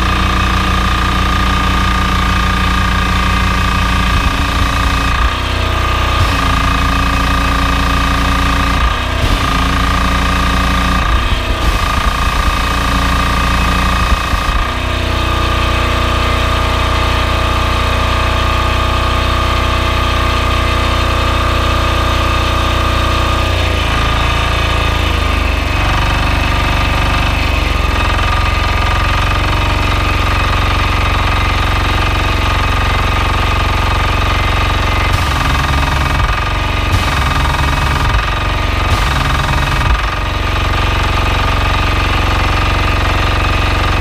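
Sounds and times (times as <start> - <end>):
diesel engine running pump: 0.0 - 44.0.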